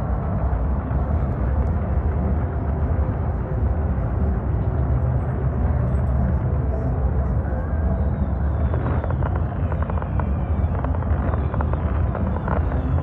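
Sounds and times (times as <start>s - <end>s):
fireworks crackling: 0.0s - 13.0s
low rumble: 0.0s - 13.0s.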